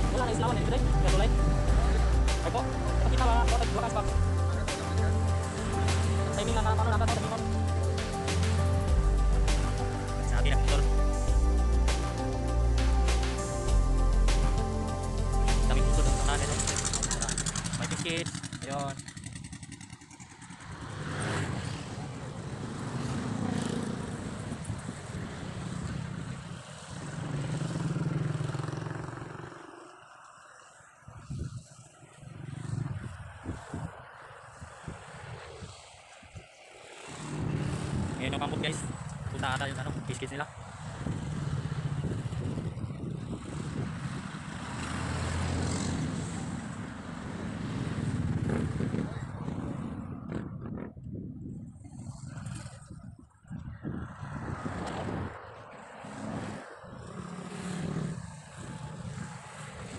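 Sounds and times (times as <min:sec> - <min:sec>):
motor vehicles passing: 0:00.0 - 0:59.9.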